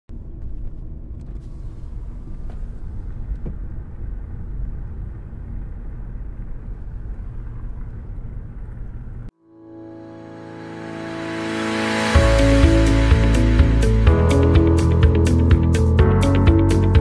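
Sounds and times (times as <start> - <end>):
low rumbling noise: 0.1 - 17.0.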